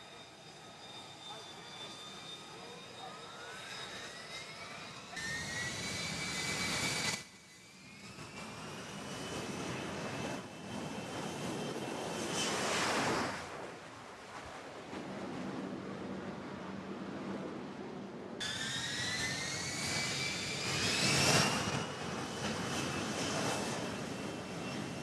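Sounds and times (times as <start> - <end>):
jet engine whine: 0.0 - 25.0.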